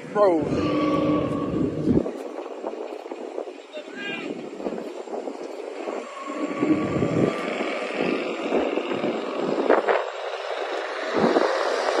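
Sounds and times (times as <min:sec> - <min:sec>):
car engine and traffic rumble: 0:00.0 - 0:12.0.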